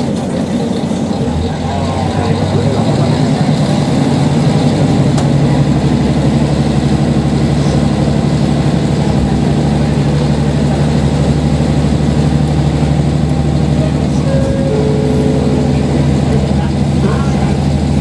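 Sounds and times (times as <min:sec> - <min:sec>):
diesel railcar engine hum: 0:00.0 - 0:18.0.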